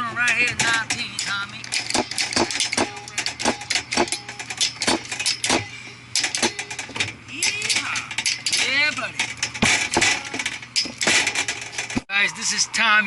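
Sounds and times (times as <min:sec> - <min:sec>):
metallic clicks and clinks: 0:00.2 - 0:12.0.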